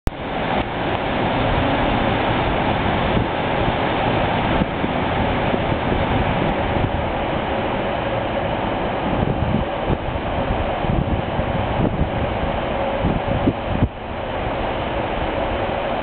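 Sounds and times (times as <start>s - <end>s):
diesel train pulling away: 0.1s - 16.0s
wind on microphone: 0.1s - 16.0s.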